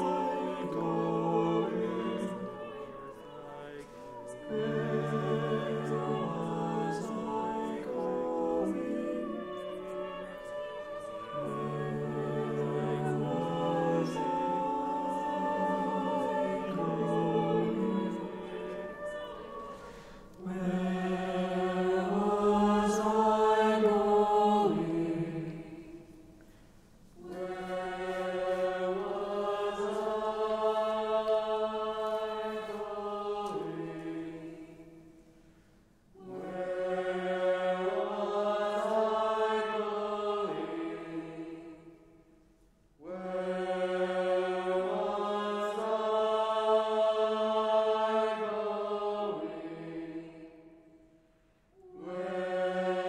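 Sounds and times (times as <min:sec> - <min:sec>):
choir singing sustained chords: 0:00.0 - 0:53.0.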